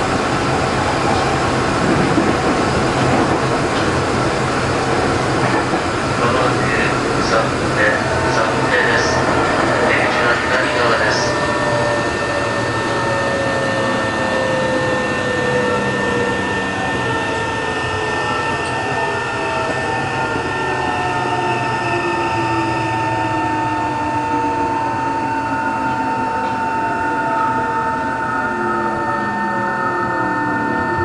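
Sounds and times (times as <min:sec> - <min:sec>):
train rail noise: 0:00.0 - 0:31.0.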